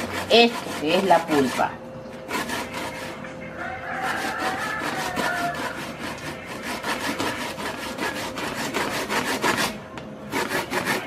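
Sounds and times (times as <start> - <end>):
knife scraping fish on cutting board: 0.0 - 3.2, 4.0 - 11.0.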